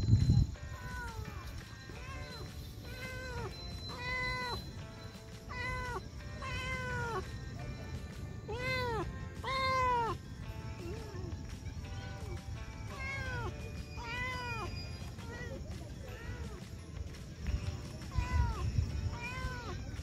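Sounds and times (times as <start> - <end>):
cat meowing: 0.6 - 4.8, 5.4 - 11.4, 12.0 - 16.7, 18.0 - 20.0.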